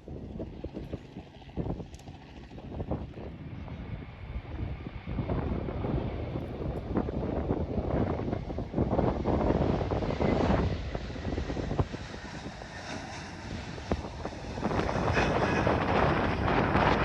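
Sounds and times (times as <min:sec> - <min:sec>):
distant aircraft engines: 0:00.0 - 0:17.0
gusty wind on microphone: 0:00.0 - 0:17.0.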